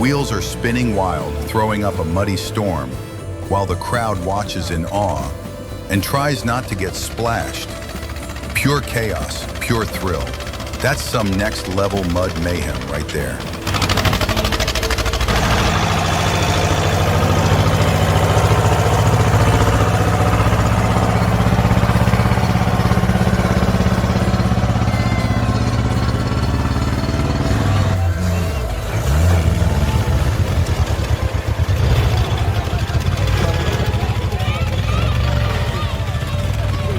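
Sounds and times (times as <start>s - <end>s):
engine revving at high revs: 0.0s - 36.9s
vehicle churning through mud: 0.0s - 36.9s.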